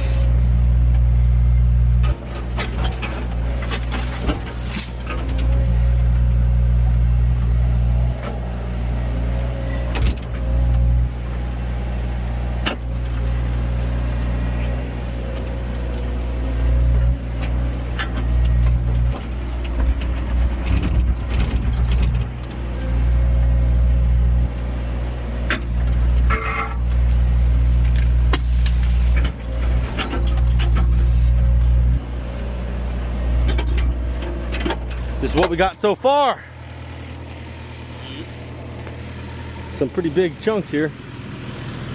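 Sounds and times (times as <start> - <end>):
heavy machine engine humming: 0.0 - 41.9.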